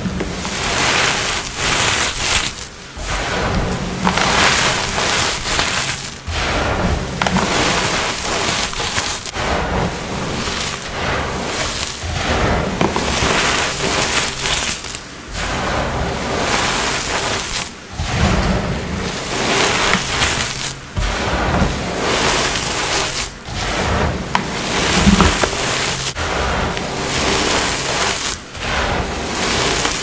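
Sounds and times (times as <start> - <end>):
powder blocks crunching: 0.0 - 6.4, 7.0 - 9.4, 11.6 - 12.2, 12.8 - 15.0, 16.5 - 30.0.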